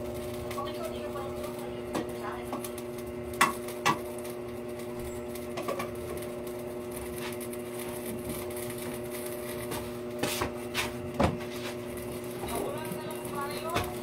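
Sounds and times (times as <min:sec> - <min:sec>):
mechanical motor hum: 0:00.0 - 0:14.0.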